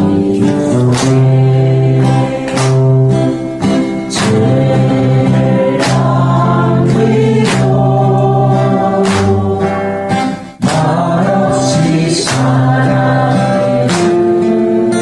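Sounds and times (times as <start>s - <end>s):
people singing together: 0.0s - 15.0s
strummed acoustic guitar: 0.0s - 15.0s.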